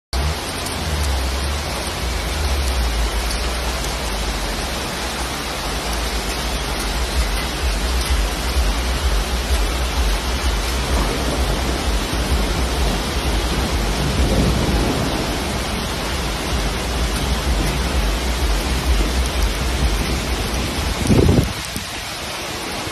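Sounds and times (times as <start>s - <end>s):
heavy rain on street: 0.1s - 22.9s
low rumble: 0.2s - 22.0s.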